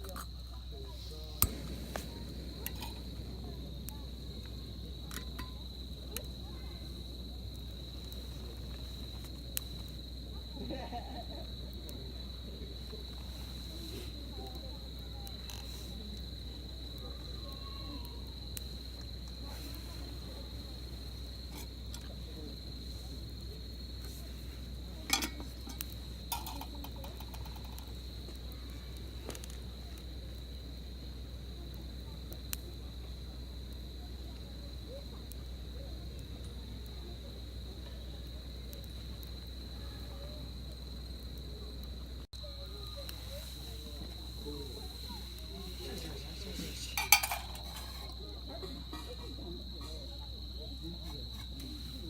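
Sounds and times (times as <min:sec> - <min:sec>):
campfire crackling: 0:00.0 - 0:52.0
insects trilling: 0:00.0 - 0:52.0.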